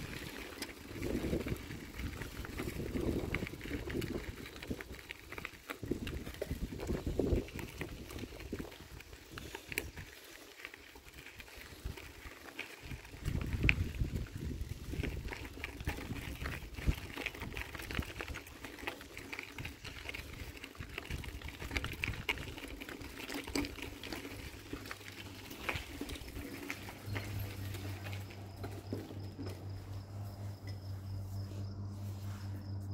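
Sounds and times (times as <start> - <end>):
bicycle tyres crunching on gravel: 0.0 - 32.9.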